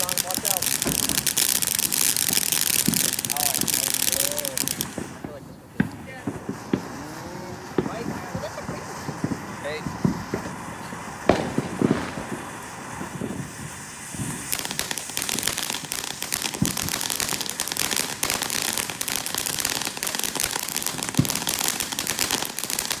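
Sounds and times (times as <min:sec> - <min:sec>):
fireworks popping and crackling: 0:00.0 - 0:23.0.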